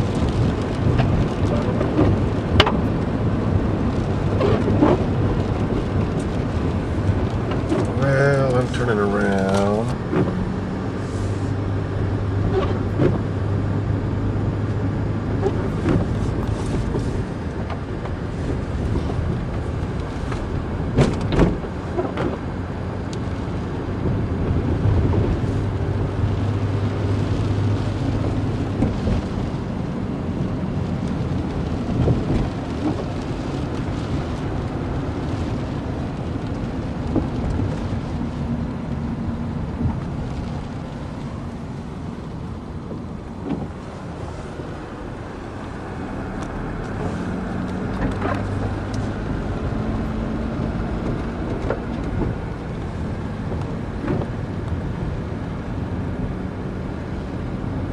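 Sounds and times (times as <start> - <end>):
car engine hum: 0.0 - 57.9
road and wind noise: 0.0 - 57.9.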